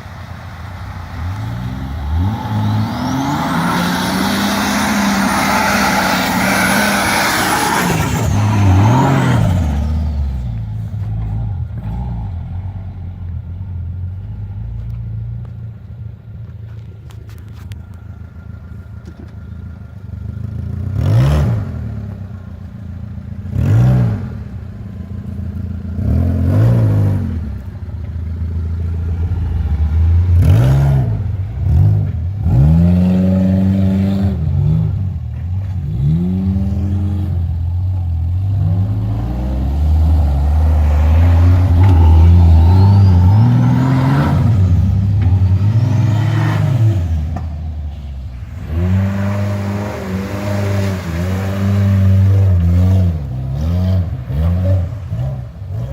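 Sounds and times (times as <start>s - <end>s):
petrol engine revving: 0.7s - 13.0s, 17.0s - 55.9s.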